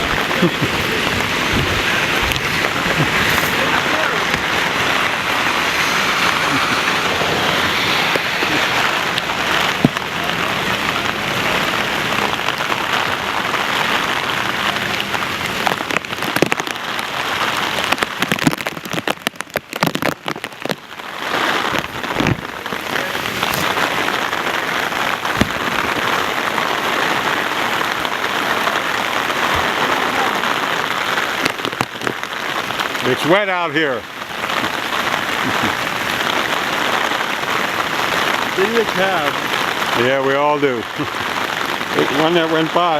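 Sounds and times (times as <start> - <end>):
heavy rain on street: 0.0 - 42.9.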